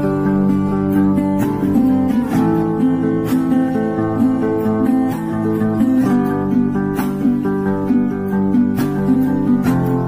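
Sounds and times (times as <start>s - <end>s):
guitar instrumental music: 0.0s - 10.0s.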